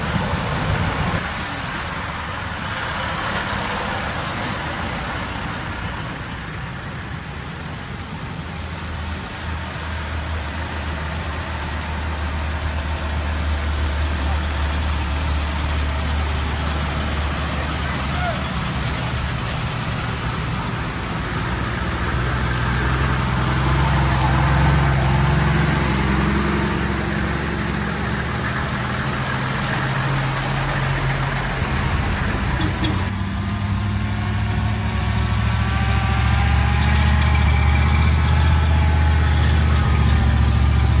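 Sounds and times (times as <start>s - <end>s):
military truck engines rumbling: 0.0s - 41.0s
truck engine with wavering pitch: 0.0s - 41.0s.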